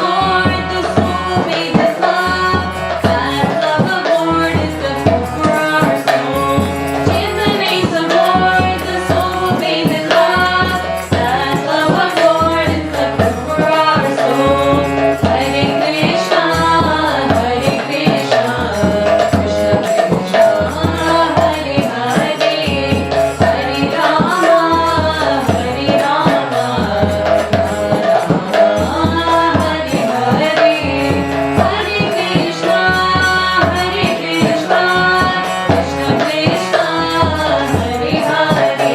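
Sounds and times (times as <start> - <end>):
steady drum beat: 0.0 - 38.9.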